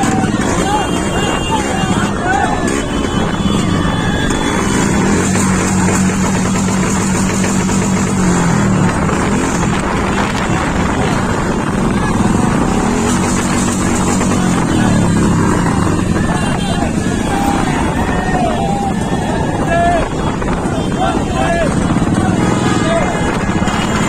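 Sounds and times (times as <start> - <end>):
crowd noise: 0.0 - 24.0
motorcycle engines running: 0.0 - 24.0
traffic noise: 0.0 - 24.0.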